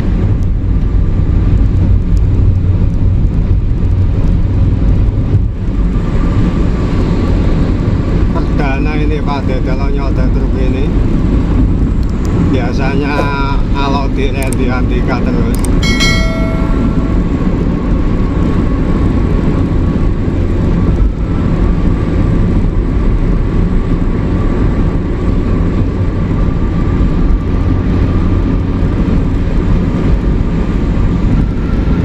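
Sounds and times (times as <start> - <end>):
truck engine drone: 0.0 - 32.0.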